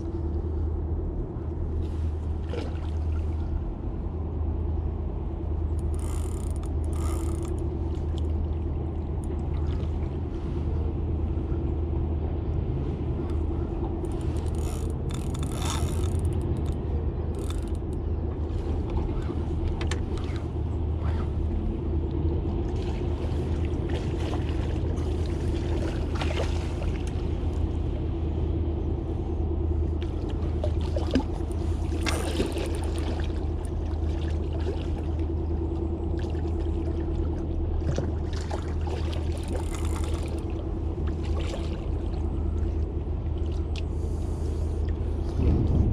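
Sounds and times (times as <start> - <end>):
boat motor humming: 0.0 - 45.9.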